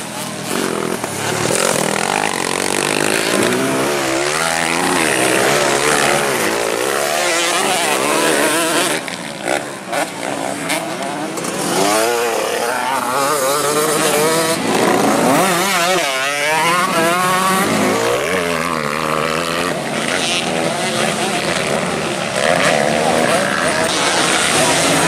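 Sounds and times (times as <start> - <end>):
motorcycles revving: 0.0 - 25.0.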